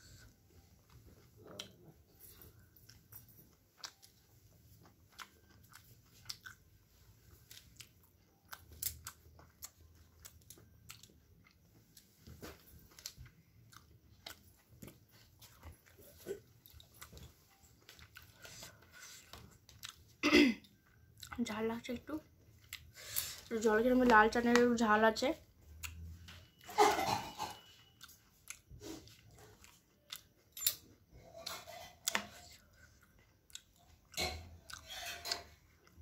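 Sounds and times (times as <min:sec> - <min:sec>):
person chewing and biting food: 0:02.5 - 0:21.4, 0:25.7 - 0:36.0.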